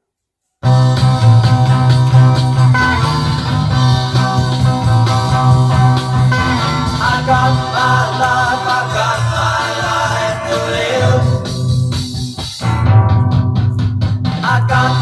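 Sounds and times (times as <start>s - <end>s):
electric guitar lines: 0.6s - 15.0s
steady bass: 0.6s - 15.0s.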